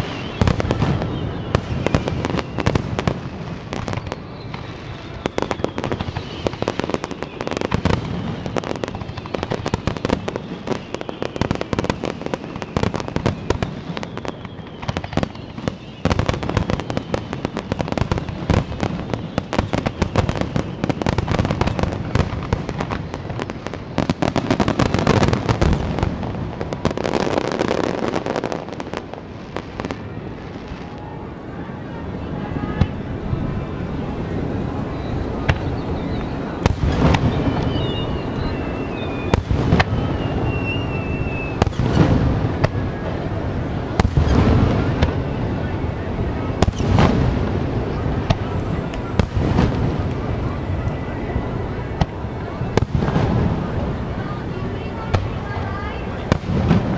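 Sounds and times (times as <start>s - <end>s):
fireworks bursts and crackle: 0.0s - 56.9s.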